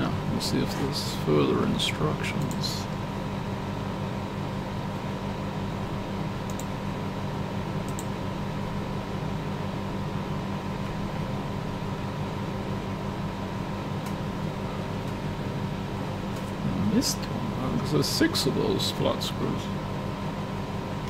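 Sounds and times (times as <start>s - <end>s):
machine humming and hissing: 0.0s - 21.0s.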